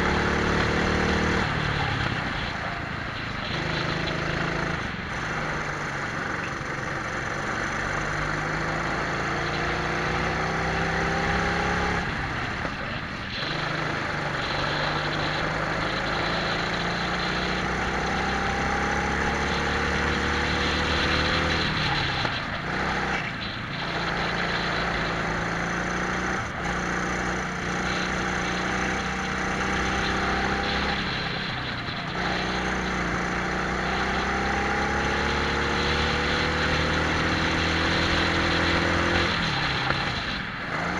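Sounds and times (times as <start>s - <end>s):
kart engines revving: 0.0s - 40.9s.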